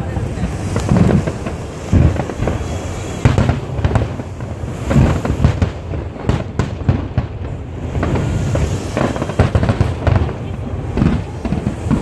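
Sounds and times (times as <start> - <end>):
firework shells booming: 0.0 - 12.0.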